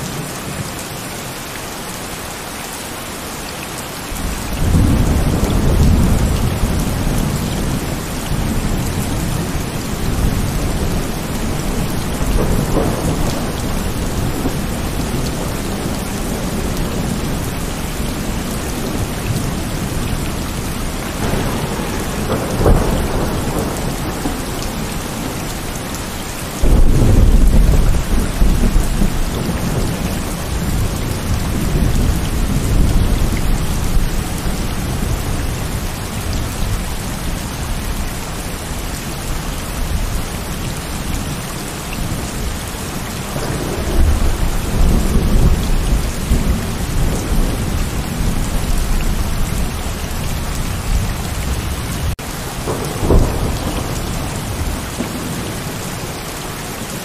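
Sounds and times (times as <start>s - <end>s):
heavy rain: 0.0s - 57.0s
thunder rumbling: 4.1s - 41.4s, 42.0s - 56.3s.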